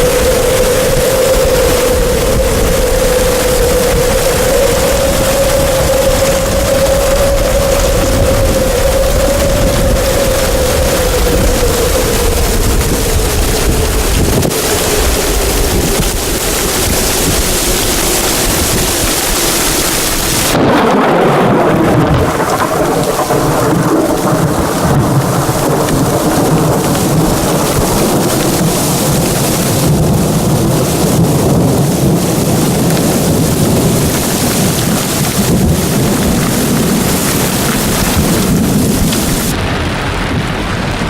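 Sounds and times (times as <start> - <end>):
rain: 0.0 - 41.0
rolling thunder: 0.0 - 41.0
wind: 0.0 - 41.0.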